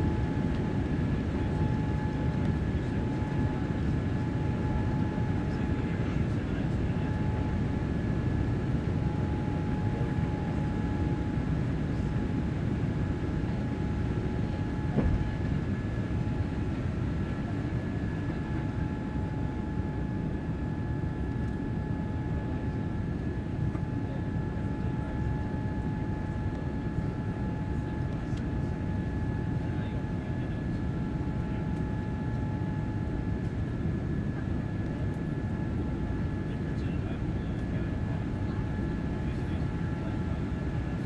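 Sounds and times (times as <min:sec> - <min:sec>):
jet engine roar and rushing air: 0:00.0 - 0:41.0
thin steady whine: 0:00.0 - 0:41.0.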